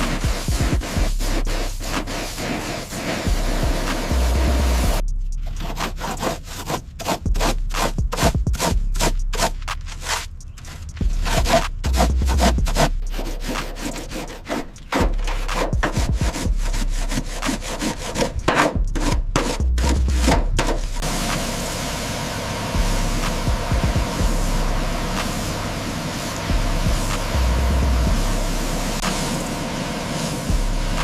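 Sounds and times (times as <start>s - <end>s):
rubbing strokes against a surface: 0.0s - 31.0s.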